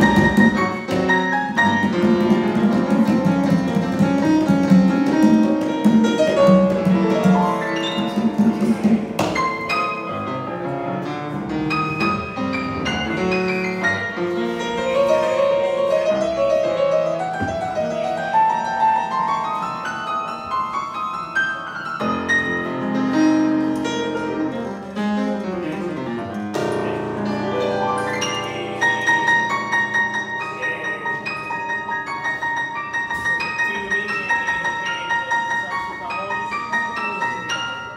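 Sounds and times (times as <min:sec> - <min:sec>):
grand piano playing: 0:00.0 - 0:37.9.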